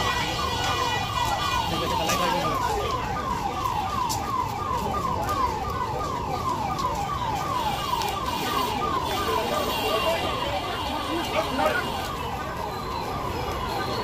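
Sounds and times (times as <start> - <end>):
crowd hubbub: 0.0 - 14.0.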